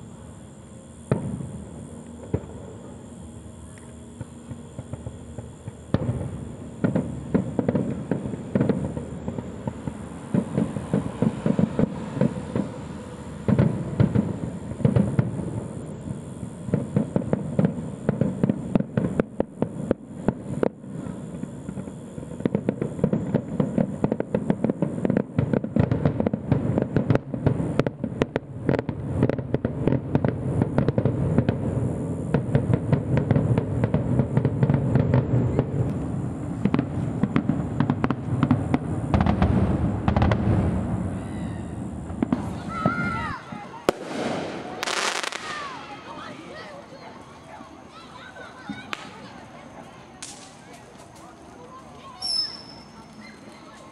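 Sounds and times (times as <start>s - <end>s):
fireworks cracking and popping: 0.0s - 53.9s
heavy firework bangs: 0.9s - 3.2s, 4.1s - 46.7s.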